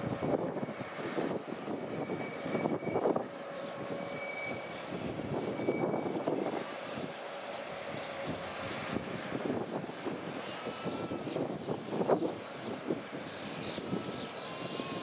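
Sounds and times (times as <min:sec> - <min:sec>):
distant locomotive engine drone: 0:00.0 - 0:15.0.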